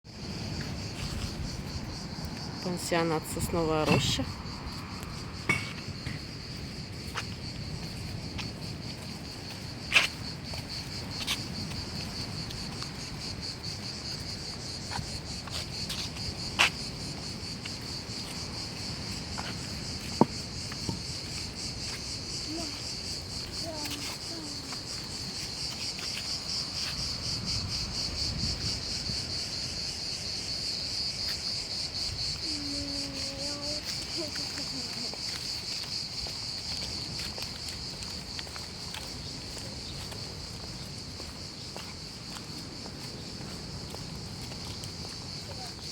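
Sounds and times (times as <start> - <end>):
insect chorus buzzing: 0.1 - 45.9.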